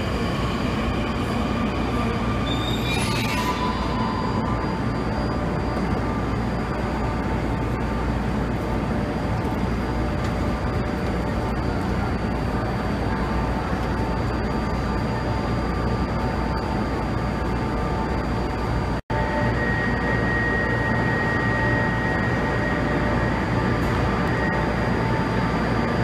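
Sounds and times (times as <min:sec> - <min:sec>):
high-pitched whine: 0:00.0 - 0:26.0
train equipment hum and rumble: 0:00.0 - 0:26.0.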